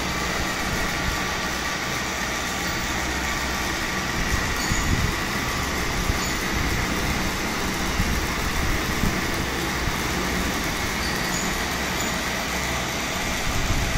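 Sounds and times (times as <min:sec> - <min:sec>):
toy trains whirring on track: 0:00.0 - 0:13.9.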